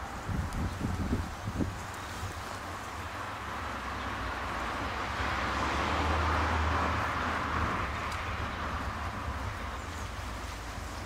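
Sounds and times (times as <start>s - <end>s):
vehicle passing: 0.0s - 11.0s.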